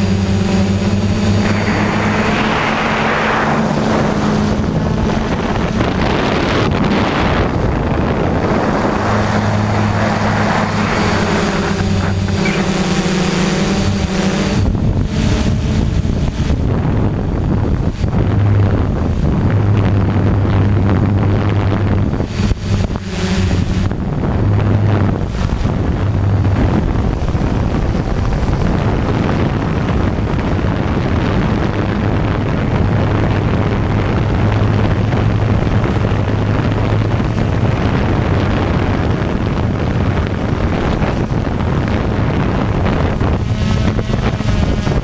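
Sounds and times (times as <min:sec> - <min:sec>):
drone motors humming: 0:00.0 - 0:45.0
wind buffeting microphone: 0:00.0 - 0:45.0.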